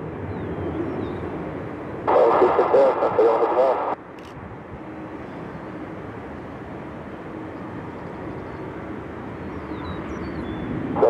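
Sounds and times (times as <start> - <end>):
distant jet engines: 0.0 - 11.0.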